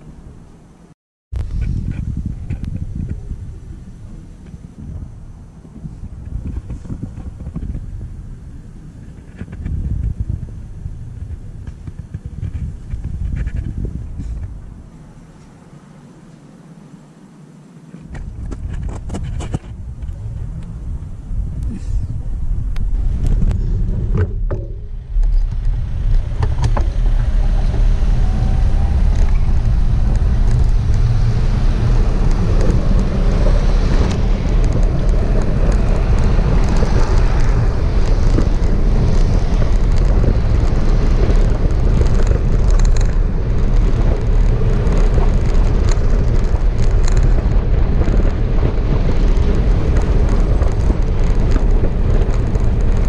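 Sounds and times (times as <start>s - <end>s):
road and traffic noise: 0.0s - 53.0s
wind rumble on microphone: 0.0s - 53.0s.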